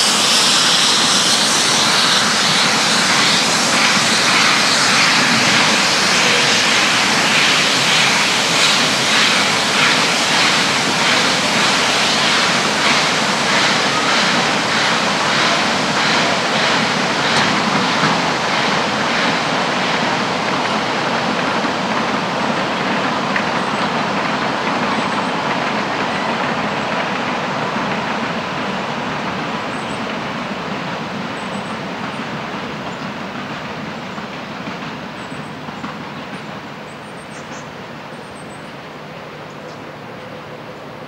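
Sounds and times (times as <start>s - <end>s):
steam train running past: 0.0s - 41.0s.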